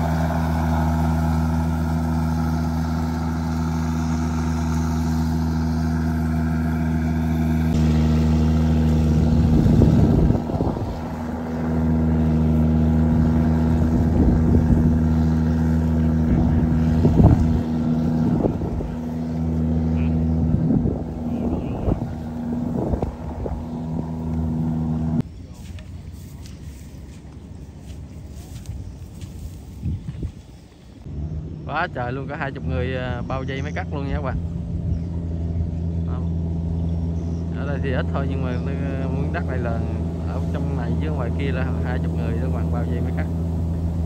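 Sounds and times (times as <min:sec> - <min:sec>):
combine harvester engine humming: 0:00.0 - 0:44.0.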